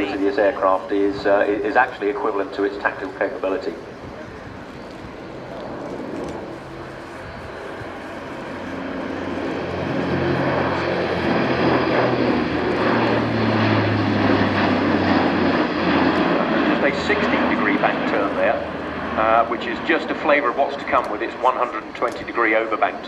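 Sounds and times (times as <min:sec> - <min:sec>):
turboprop aircraft flying past: 0:00.0 - 0:23.0.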